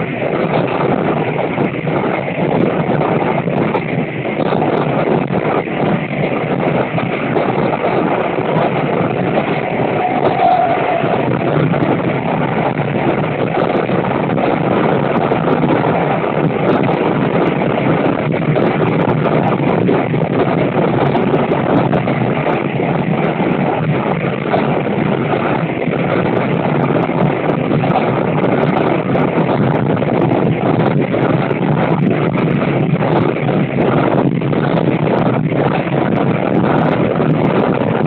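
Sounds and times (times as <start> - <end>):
railcar running noise: 0.0 - 38.0
wind rush over microphone: 0.0 - 38.0.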